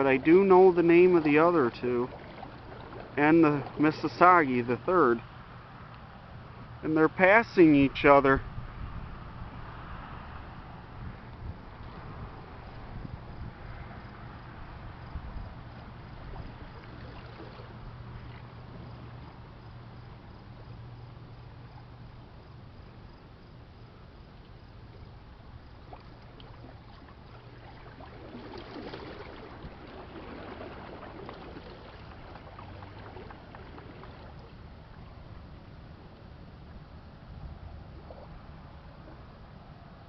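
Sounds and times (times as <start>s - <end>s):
water lapping at shore: 0.0s - 6.0s, 11.5s - 23.0s, 23.7s - 40.0s
distant ship engine hum: 0.0s - 40.0s.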